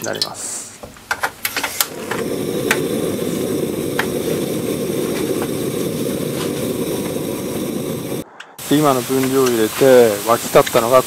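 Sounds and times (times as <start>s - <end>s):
pan heating rushing noise: 1.8s - 11.0s.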